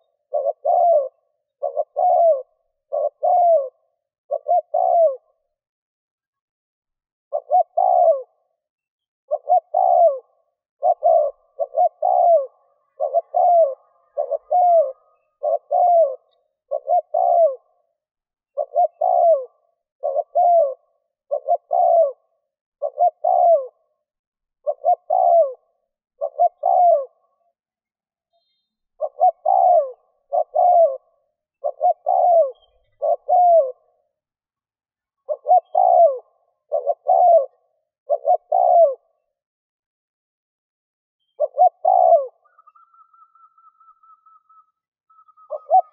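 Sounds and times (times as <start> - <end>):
dove cooing: 0.0 - 5.5, 7.3 - 8.6, 9.3 - 24.0, 24.6 - 27.4, 29.0 - 34.2, 35.2 - 39.3, 41.4 - 45.9.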